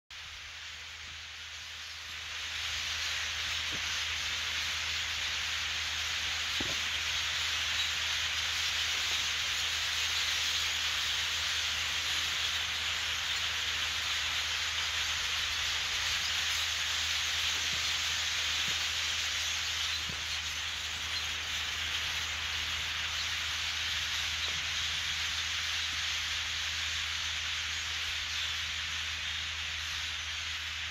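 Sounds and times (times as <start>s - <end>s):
flock of birds calling: 0.3s - 30.9s.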